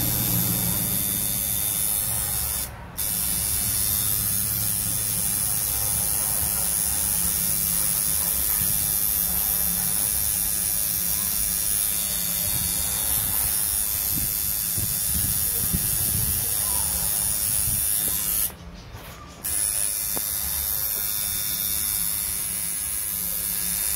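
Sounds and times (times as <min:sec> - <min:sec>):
tattoo machine buzzing: 0:00.0 - 0:18.6, 0:19.4 - 0:23.9.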